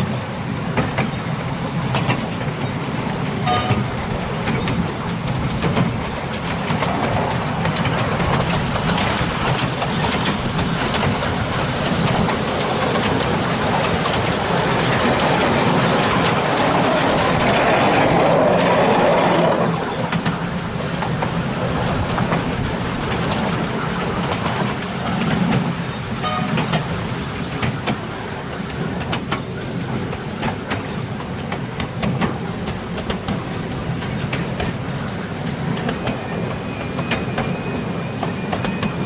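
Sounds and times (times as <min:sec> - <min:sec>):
carriages clicking on track: 0:00.0 - 0:39.0
diesel locomotive engine running: 0:00.0 - 0:39.0.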